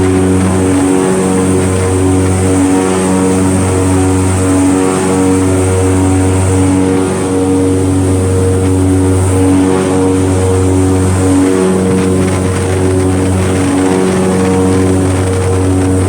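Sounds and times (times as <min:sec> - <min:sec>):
airboat engine and propeller drone: 0:00.0 - 0:16.0.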